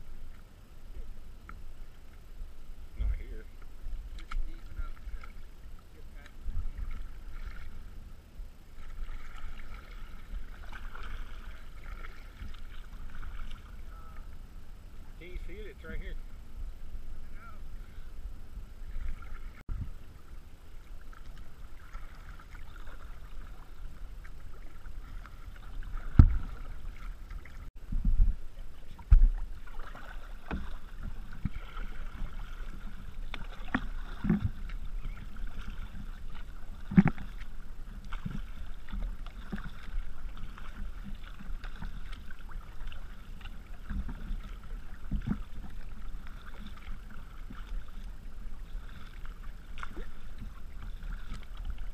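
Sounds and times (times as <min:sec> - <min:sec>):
paddles splashing in water: 0:00.0 - 0:51.9
water lapping against hull: 0:00.0 - 0:51.9.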